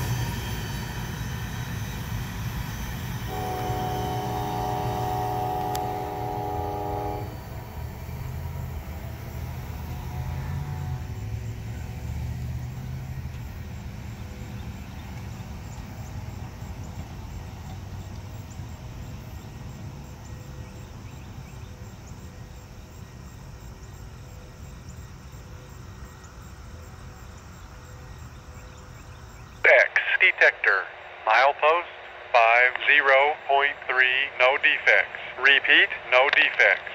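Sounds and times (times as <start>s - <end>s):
coal train rumbling: 0.0s - 36.9s.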